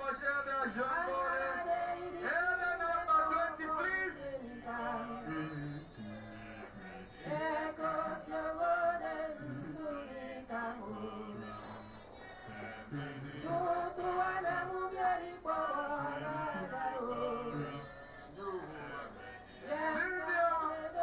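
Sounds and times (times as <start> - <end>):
group singing worship song: 0.6 - 21.0.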